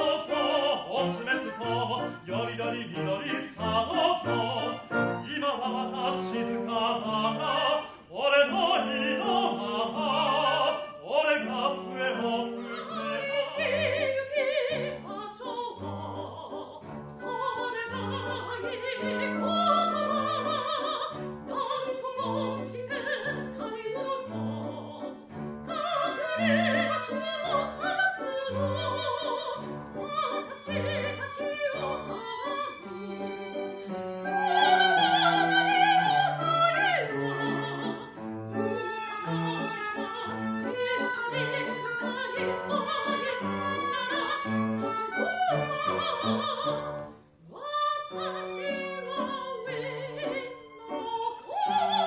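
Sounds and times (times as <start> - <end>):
orchestral accompaniment: 0.0 - 7.8, 8.5 - 47.1
operetta singing with vibrato: 0.0 - 52.0.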